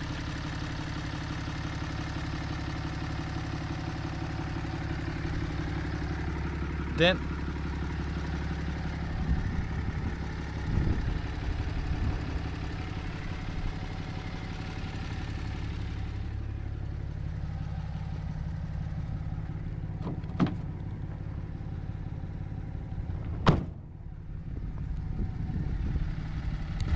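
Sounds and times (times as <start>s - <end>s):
truck engine idling: 0.0s - 26.9s.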